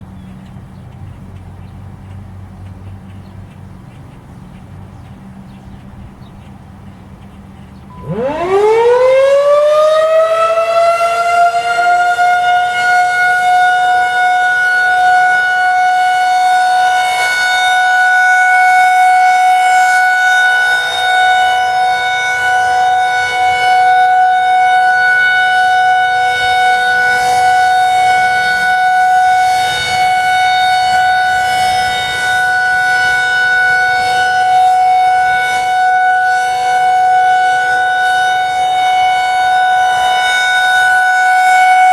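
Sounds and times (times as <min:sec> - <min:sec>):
warning siren steady tone: 0:07.8 - 0:41.9.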